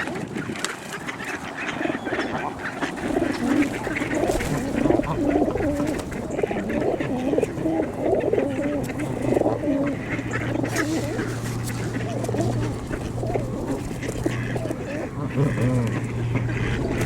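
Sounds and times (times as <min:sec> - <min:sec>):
ducks and geese calling: 0:00.0 - 0:17.0.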